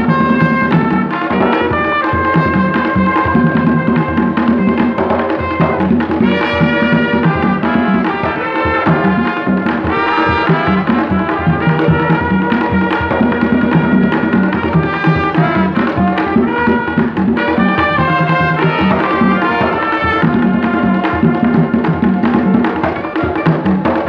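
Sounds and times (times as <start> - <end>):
hand drums beating: 0.0 - 24.0
trumpets playing a melody: 0.0 - 24.0.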